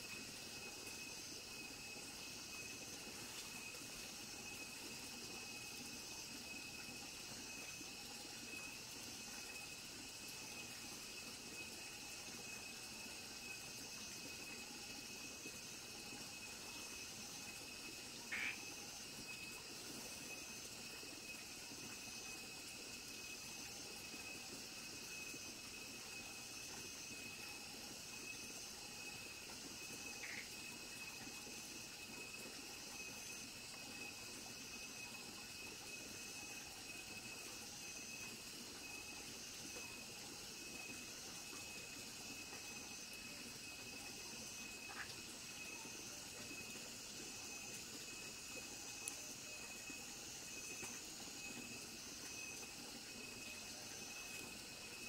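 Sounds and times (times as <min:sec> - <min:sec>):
faint insect shimmer: 0:00.0 - 0:55.0
insect trill: 0:00.0 - 0:55.0
soft rushing hiss: 0:00.0 - 0:55.0.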